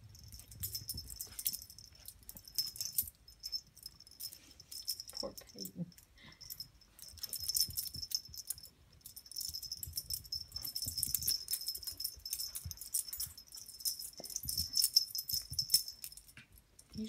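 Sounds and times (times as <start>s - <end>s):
dog collar jingling: 0.0s - 17.0s.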